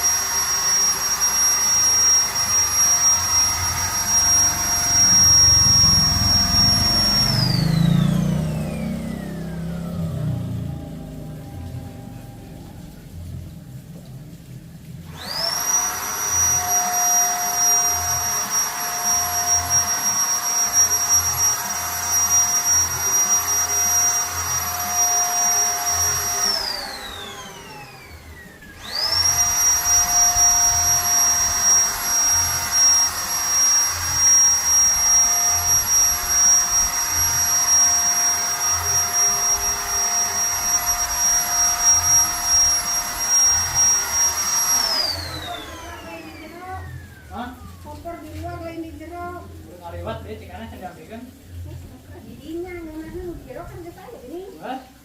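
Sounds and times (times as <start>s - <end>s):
paint spray gun motor whining: 0.0s - 13.3s, 15.0s - 50.2s.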